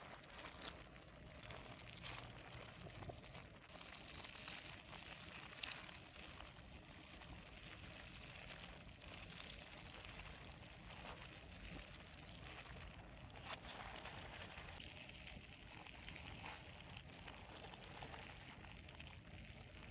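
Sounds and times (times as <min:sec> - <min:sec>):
wet squishing of water beads: 0:00.0 - 0:19.9.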